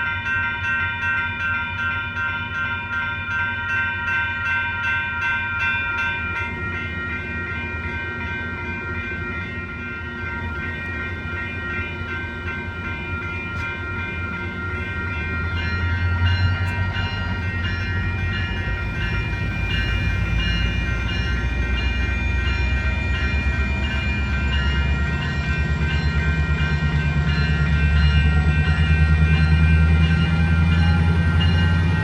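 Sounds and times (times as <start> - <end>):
diesel locomotive engine rumble: 0.0 - 32.0
pulsing bell ringing: 0.0 - 32.0.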